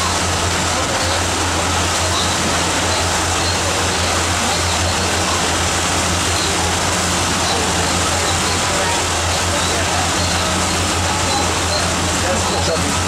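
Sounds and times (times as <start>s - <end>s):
boat engine droning: 0.0s - 13.0s
water noise: 0.0s - 13.0s.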